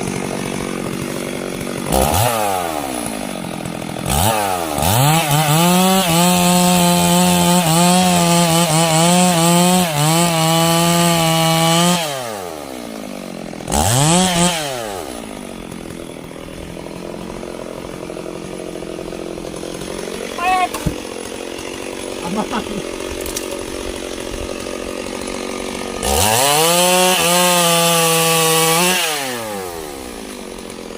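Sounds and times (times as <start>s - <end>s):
chainsaw cutting wood: 0.0s - 30.9s
chainsaw idling: 0.0s - 30.9s.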